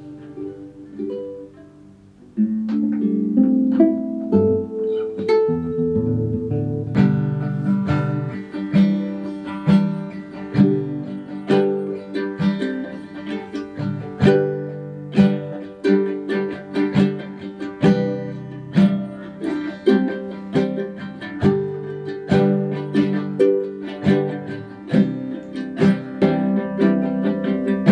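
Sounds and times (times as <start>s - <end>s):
guitar picking and strumming: 0.0s - 27.9s.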